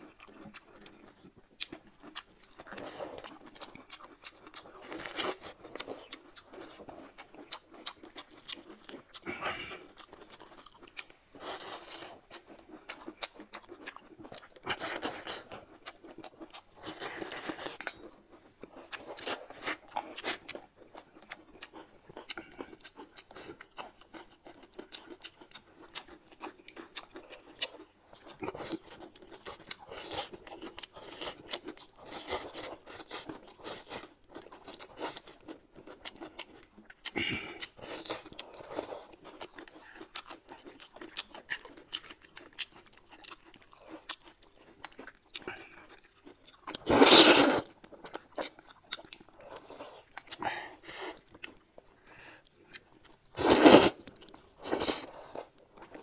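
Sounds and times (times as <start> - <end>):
people chewing and crunching food: 0.0 - 56.0.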